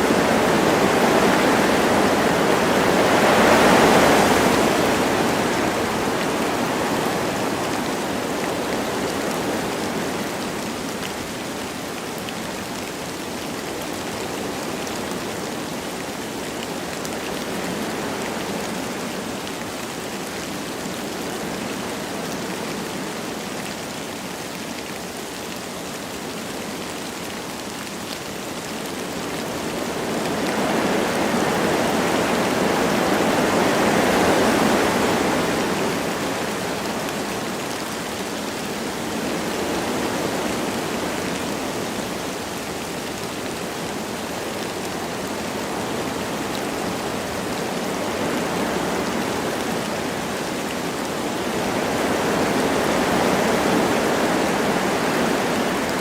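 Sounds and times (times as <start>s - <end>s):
light rain pattering: 0.0s - 56.0s
wind blowing through trees: 0.0s - 56.0s.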